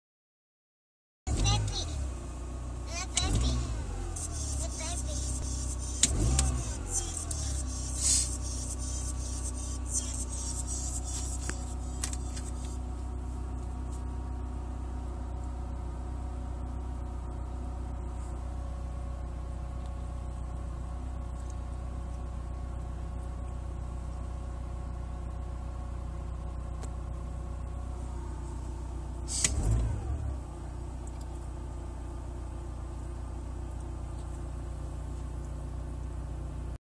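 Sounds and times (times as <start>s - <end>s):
car engine idling: 1.3s - 36.8s.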